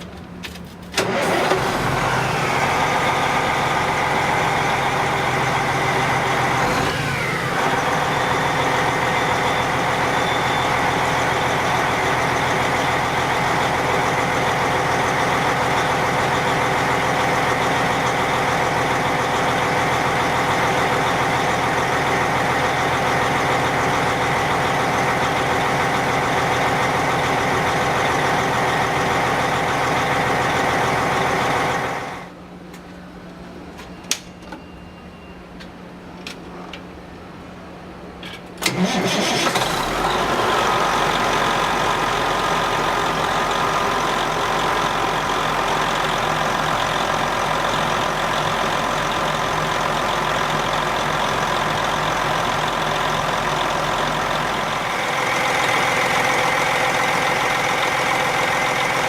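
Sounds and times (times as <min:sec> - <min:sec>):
vehicle engine starting and idling: 0:00.0 - 0:32.4, 0:38.2 - 0:59.0.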